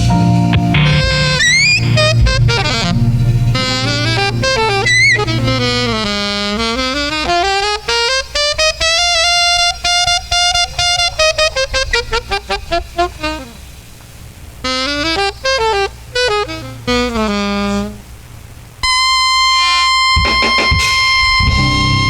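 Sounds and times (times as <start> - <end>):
backing band: 0.0 - 18.1, 18.8 - 22.0
saxophone melody: 0.0 - 22.0.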